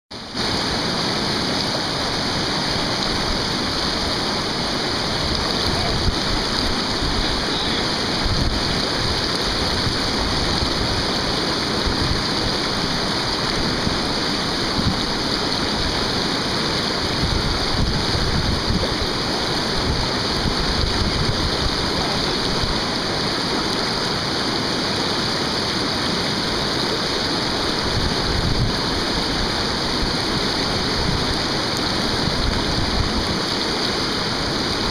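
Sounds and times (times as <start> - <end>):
whitewater rushing over boulders: 0.1 - 34.9.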